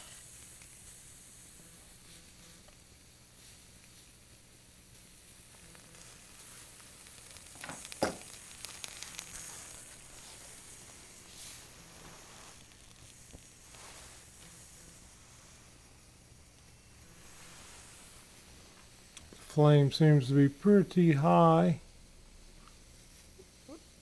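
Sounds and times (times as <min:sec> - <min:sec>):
water sizzling in cup: 0:00.0 - 0:19.6.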